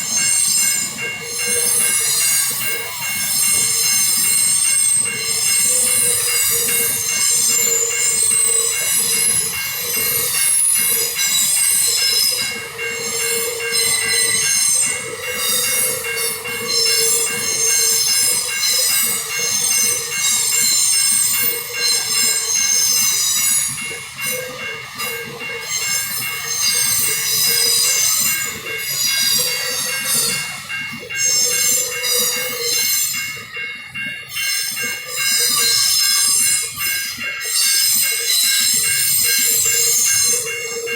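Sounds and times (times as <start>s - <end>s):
train wheels squealing: 0.0s - 40.9s
wheels clicking on rails: 0.0s - 40.9s.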